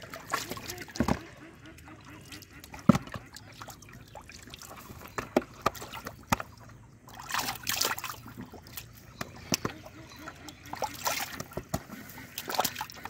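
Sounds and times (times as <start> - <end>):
muddy water sloshing: 0.0 - 13.0
water splashing: 0.0 - 13.0.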